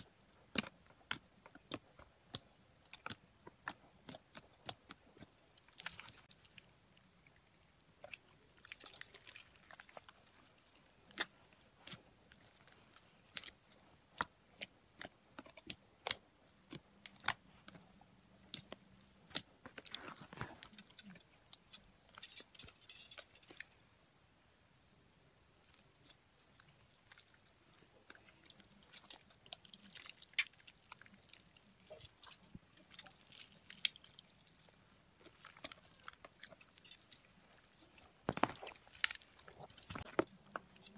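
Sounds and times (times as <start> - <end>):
slime squelching and popping: 0.0 - 22.4, 25.7 - 40.9.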